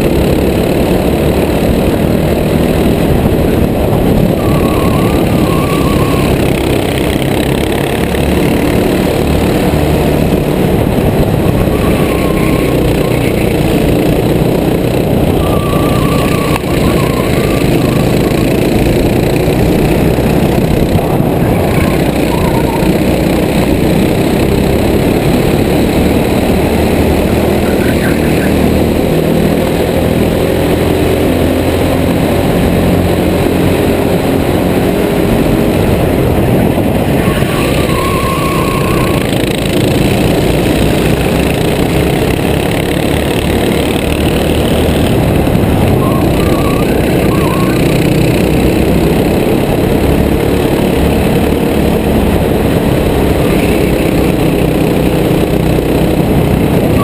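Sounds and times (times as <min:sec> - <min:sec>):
racing kart engines: 0:00.0 - 0:57.0.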